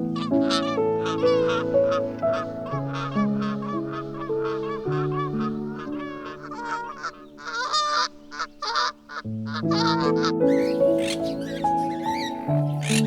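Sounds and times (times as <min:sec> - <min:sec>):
birds honking: 0:00.0 - 0:13.0
music of slow sustained chords: 0:00.0 - 0:13.0.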